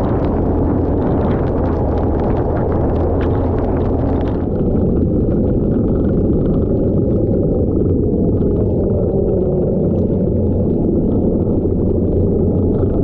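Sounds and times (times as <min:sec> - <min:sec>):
rapid patter of sharp ticks: 0:00.0 - 0:13.0.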